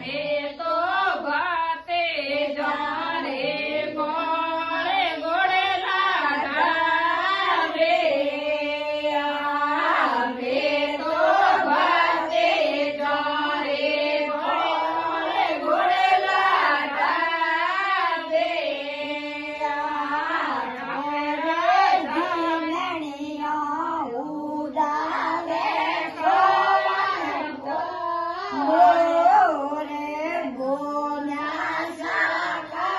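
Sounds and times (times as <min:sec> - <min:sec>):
woman singing devotional song: 0:00.0 - 0:32.9.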